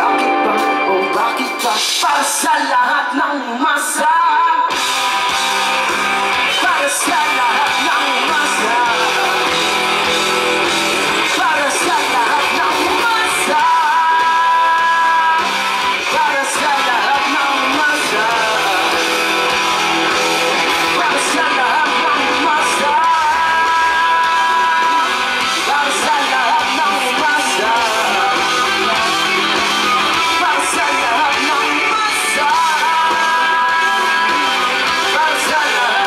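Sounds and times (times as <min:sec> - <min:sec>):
person singing: 0:00.0 - 0:04.8, 0:05.8 - 0:36.0
live rock band playing: 0:00.0 - 0:36.0.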